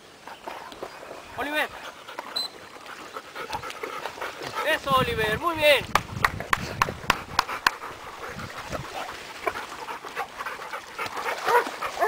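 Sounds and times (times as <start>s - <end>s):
dog panting: 0.4s - 5.4s, 6.6s - 12.0s.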